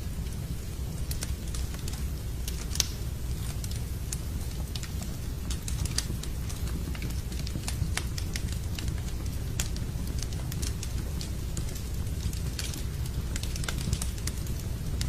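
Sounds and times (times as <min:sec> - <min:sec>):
log fire crackling: 0:00.0 - 0:15.0
rain hissing: 0:00.0 - 0:15.0.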